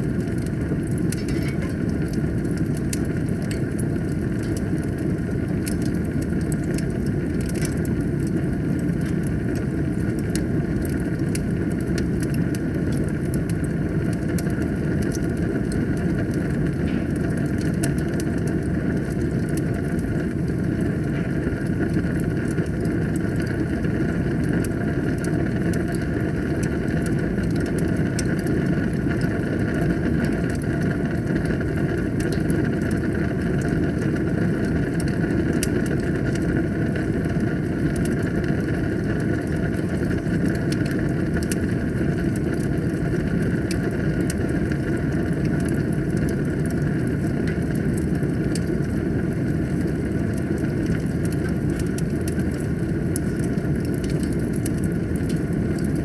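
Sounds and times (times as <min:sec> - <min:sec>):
fire crackling and popping: 0:00.0 - 0:56.0
fire roaring: 0:00.0 - 0:56.0.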